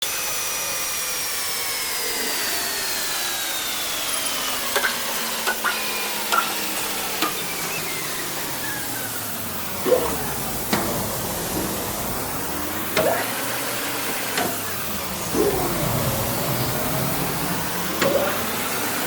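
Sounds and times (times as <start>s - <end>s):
lathe cutting metal: 0.1s - 19.0s.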